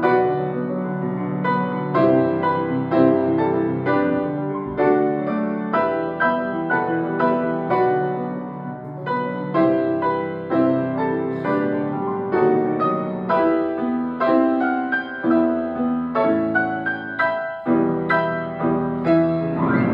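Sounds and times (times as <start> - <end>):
piano chords and melody: 0.0 - 19.9.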